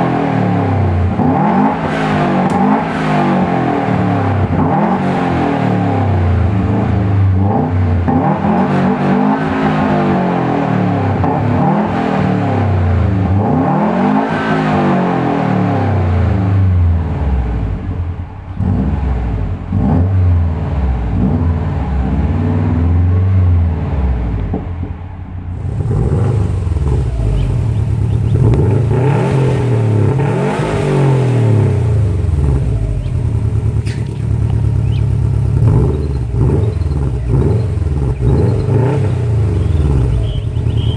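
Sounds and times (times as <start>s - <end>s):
car engine revving loud exhaust: 0.0s - 40.9s.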